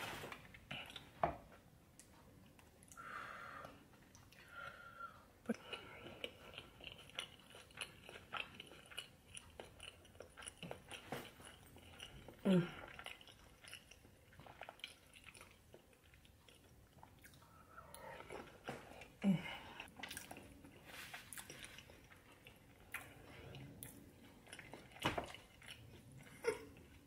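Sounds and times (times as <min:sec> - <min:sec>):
person chewing with wet clicks: 0:03.6 - 0:27.0.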